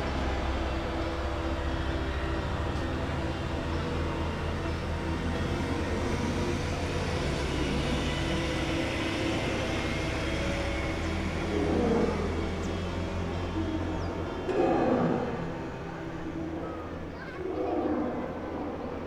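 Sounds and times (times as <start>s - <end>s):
bus engine humming: 0.0s - 17.5s.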